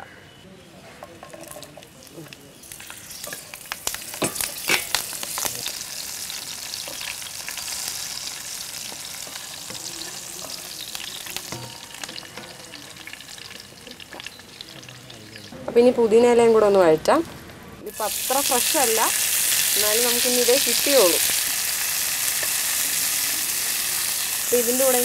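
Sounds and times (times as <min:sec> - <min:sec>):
chillies sizzling in hot oil: 0:01.2 - 0:15.6, 0:17.8 - 0:25.0
oil crackling and popping: 0:01.3 - 0:15.5, 0:17.9 - 0:25.0.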